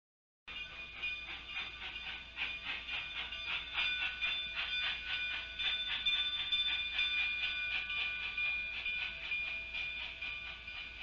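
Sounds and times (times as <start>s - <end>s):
steam locomotive exhaust chuffing: 0.5s - 11.0s.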